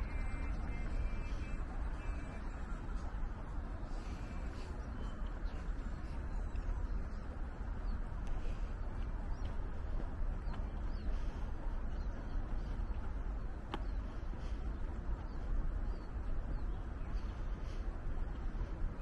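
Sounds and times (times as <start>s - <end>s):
low background street noise: 0.0s - 19.0s.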